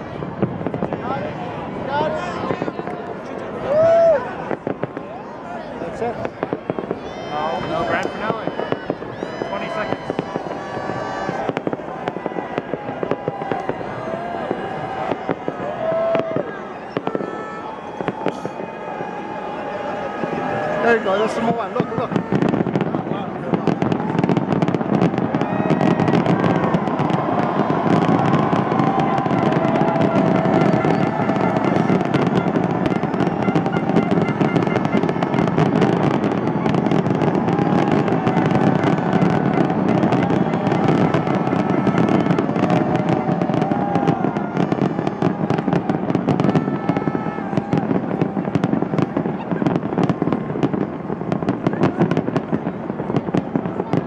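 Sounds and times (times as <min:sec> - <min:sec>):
fireworks crackling: 0:00.0 - 0:54.0.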